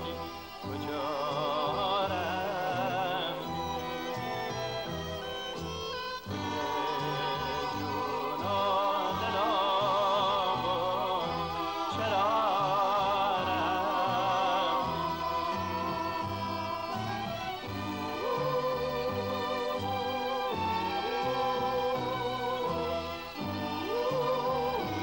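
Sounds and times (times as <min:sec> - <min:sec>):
orchestral backing: 0:00.0 - 0:25.0.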